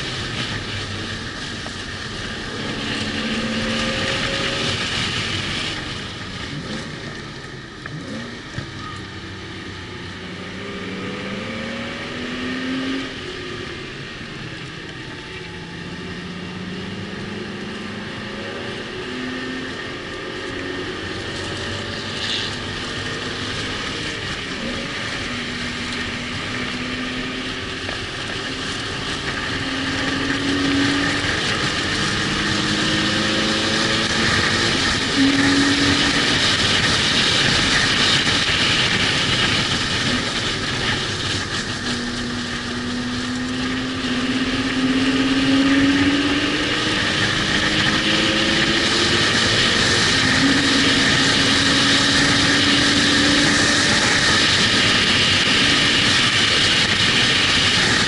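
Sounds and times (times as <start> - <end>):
car engine revving: 0.0 - 58.0
wind and road noise: 0.0 - 58.0.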